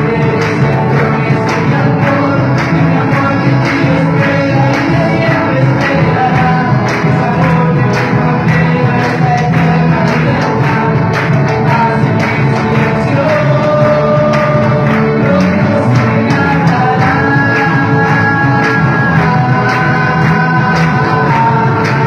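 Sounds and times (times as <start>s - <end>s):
person singing long notes: 0.0s - 22.0s
rock band playing: 0.0s - 22.0s.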